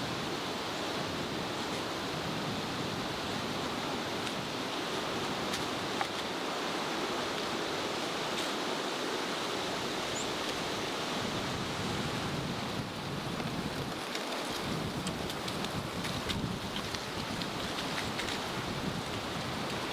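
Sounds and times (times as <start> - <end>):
steady wind blowing: 0.0 - 19.9.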